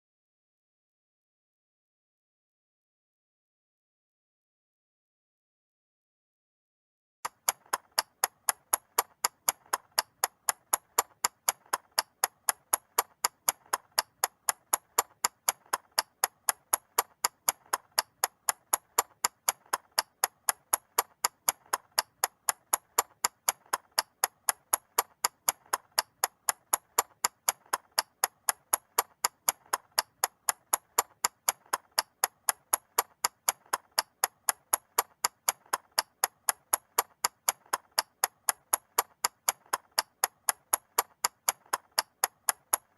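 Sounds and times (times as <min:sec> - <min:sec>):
mechanical clock ticking: 0:07.3 - 0:42.9.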